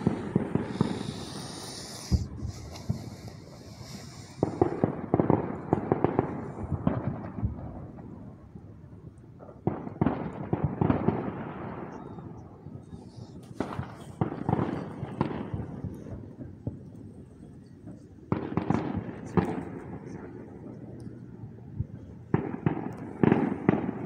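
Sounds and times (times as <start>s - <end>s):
fireworks crackling and popping: 0.0s - 8.6s, 9.2s - 24.0s.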